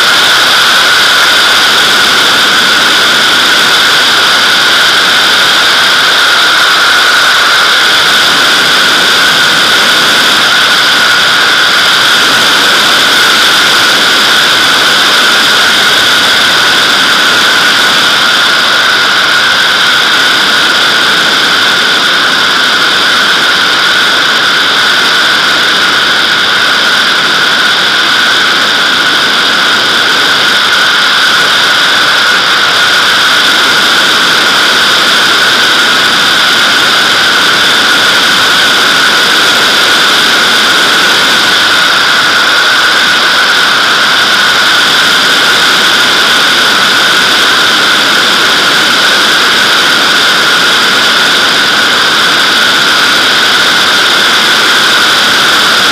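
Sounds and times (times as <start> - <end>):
wind rushing over camera: 0.0 - 55.9.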